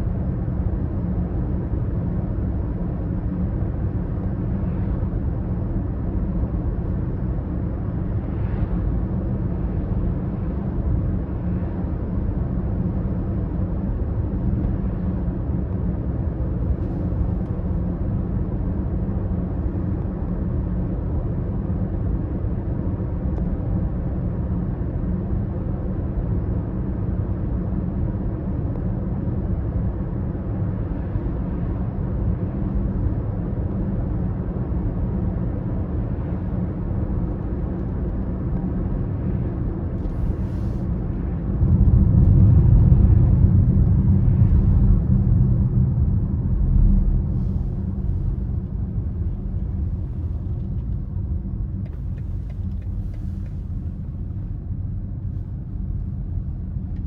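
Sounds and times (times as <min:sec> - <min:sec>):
diesel engine cruising rumble: 0:00.0 - 0:57.0.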